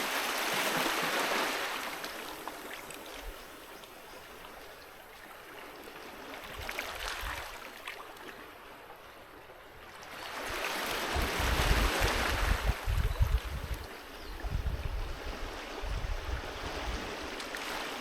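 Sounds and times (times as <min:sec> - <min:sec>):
sea waves breaking on beach: 0:00.0 - 0:14.1, 0:15.0 - 0:18.0.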